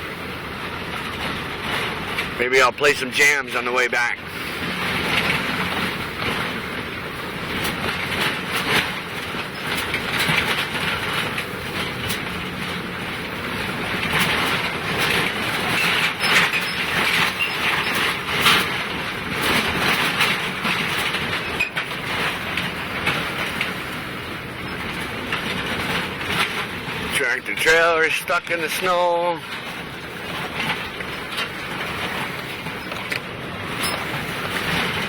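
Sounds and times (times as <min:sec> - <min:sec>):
tyre and road noise: 0:00.0 - 0:35.0.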